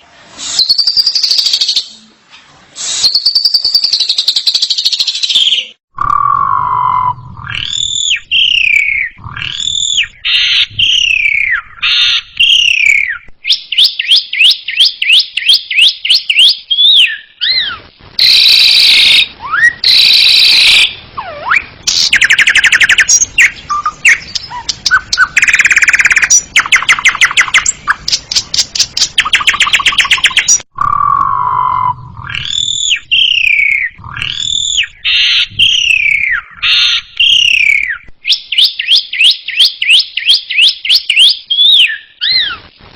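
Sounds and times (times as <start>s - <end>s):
starling singing: 3.1s - 42.6s.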